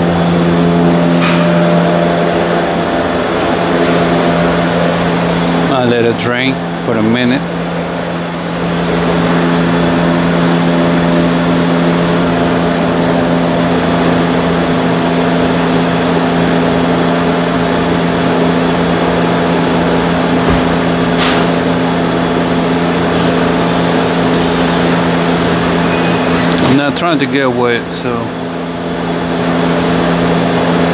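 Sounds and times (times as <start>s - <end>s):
machine hum: 0.0s - 30.9s.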